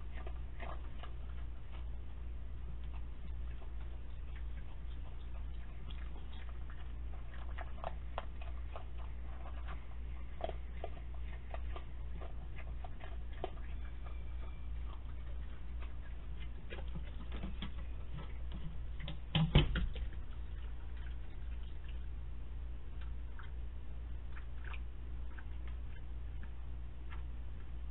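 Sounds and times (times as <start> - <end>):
low electrical hum: 0.0 - 27.9
raccoon crunching kibble in steel bowl: 0.0 - 27.9.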